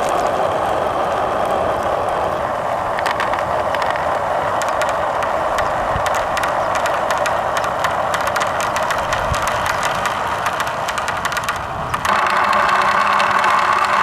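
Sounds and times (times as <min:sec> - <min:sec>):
marbles rolling on track: 0:02.2 - 0:14.0.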